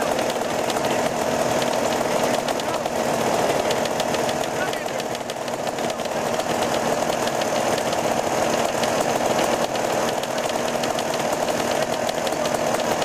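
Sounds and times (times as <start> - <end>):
dirt bike and atv engines idling: 0.0 - 13.0.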